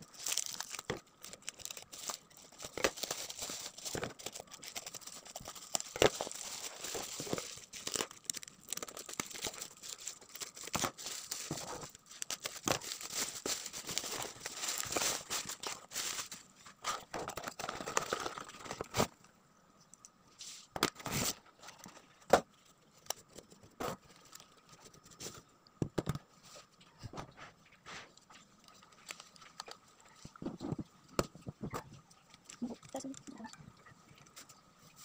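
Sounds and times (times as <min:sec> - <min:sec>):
plastic packaging crinkling: 0:00.0 - 0:19.2, 0:20.7 - 0:25.4, 0:28.3 - 0:33.6.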